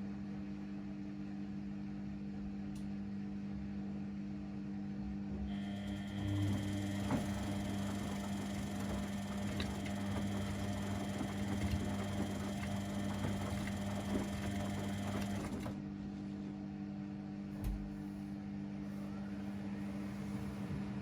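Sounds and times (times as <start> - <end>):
washing machine motor hum: 3.4 - 21.0.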